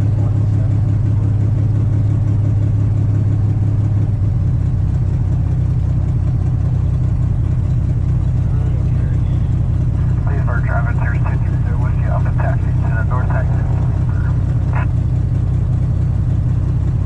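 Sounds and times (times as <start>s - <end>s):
piston engine droning in cabin: 0.0s - 17.0s.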